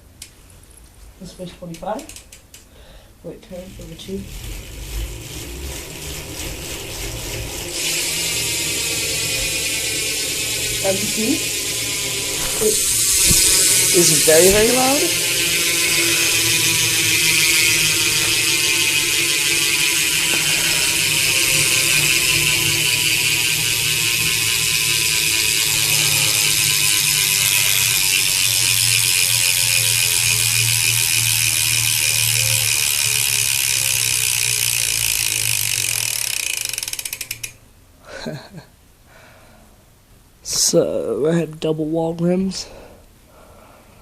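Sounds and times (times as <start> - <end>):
bike freewheel hub ratcheting: 1.7 - 2.7, 3.4 - 37.6.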